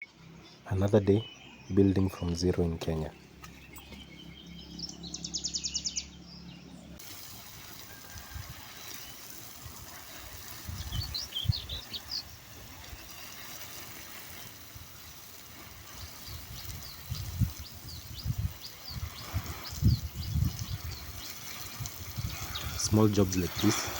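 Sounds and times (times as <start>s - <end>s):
birds chirping: 0.0s - 23.9s.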